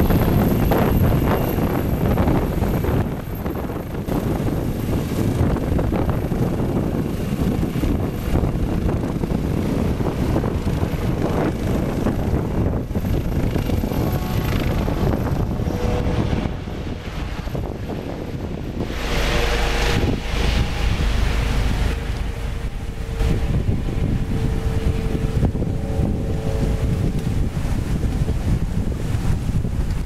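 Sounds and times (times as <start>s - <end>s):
helicopter taking off: 0.0s - 29.7s.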